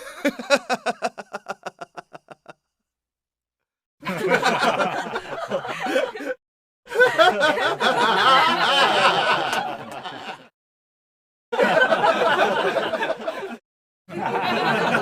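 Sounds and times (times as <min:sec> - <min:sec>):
laughter: 0:00.0 - 0:02.8, 0:04.0 - 0:10.5, 0:11.5 - 0:15.0.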